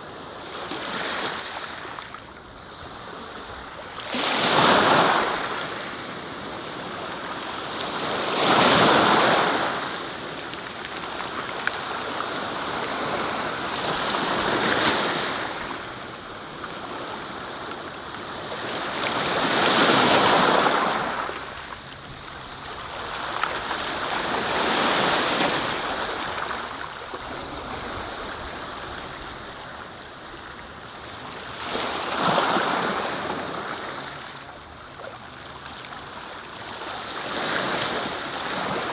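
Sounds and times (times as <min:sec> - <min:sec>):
sea waves breaking: 0:04.0 - 0:38.9.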